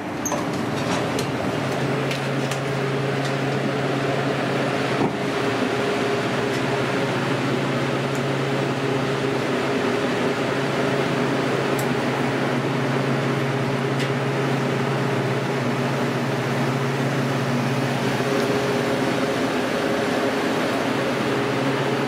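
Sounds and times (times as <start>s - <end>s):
refrigerator fan and motor hum: 0.0s - 22.0s.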